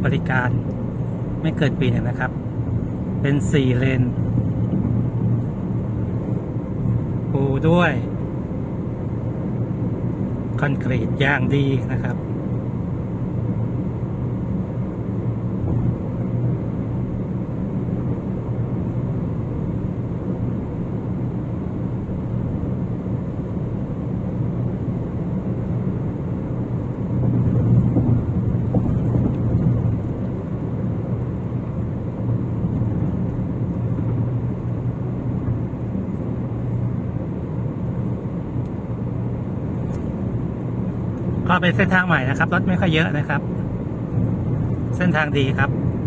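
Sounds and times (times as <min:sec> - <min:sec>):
car engine and tyre noise: 0:00.0 - 0:46.0.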